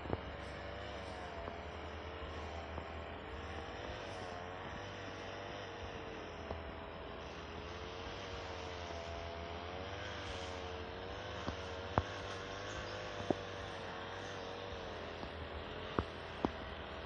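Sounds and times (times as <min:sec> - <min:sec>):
distant motor humming: 0:00.0 - 0:17.0.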